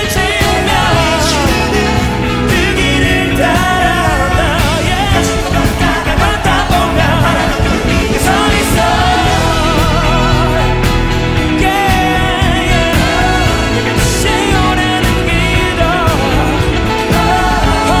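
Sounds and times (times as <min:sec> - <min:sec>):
man singing with vibrato: 0:00.0 - 0:18.0
pop band accompaniment: 0:00.0 - 0:18.0.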